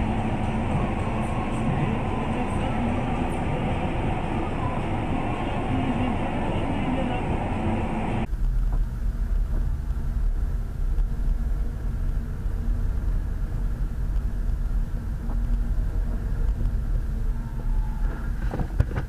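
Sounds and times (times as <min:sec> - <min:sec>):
engine and road noise rumble: 0:00.0 - 0:19.0.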